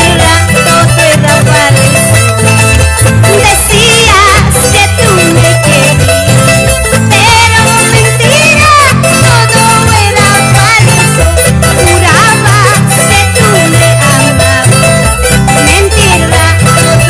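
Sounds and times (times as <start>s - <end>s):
guitars: 0.0s - 17.0s
high melody with vibrato: 0.0s - 17.0s
pulsing bass line: 0.0s - 17.0s.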